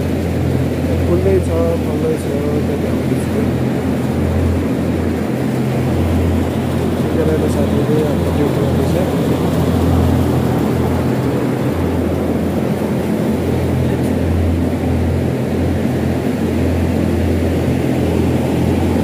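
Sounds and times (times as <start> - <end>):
ventilation fans humming: 0.0 - 19.0.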